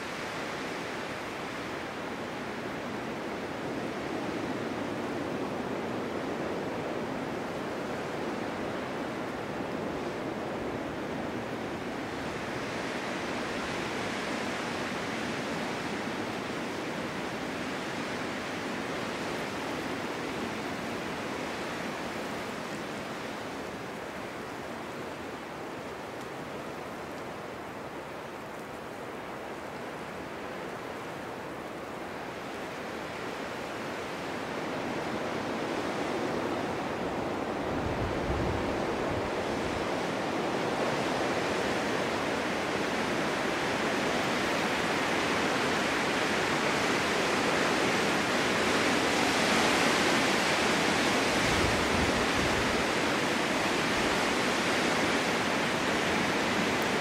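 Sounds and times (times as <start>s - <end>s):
snowstorm wind rushing hiss: 0.0s - 57.0s.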